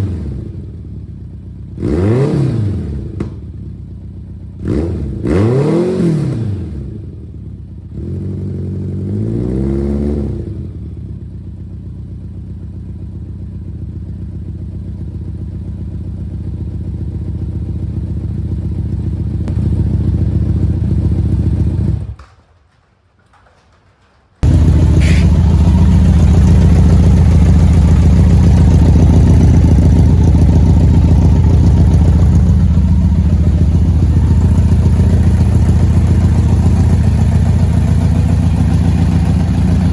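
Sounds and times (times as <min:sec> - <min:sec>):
motorcycle engine revving and idling: 0:00.0 - 0:22.2, 0:24.4 - 0:39.9.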